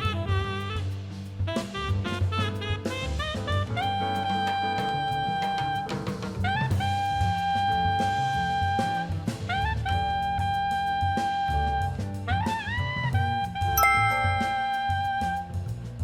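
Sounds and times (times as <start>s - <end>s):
saxophone playing long notes: 0.0s - 11.9s, 13.8s - 15.6s
bass: 0.0s - 16.0s
drums: 0.0s - 16.0s.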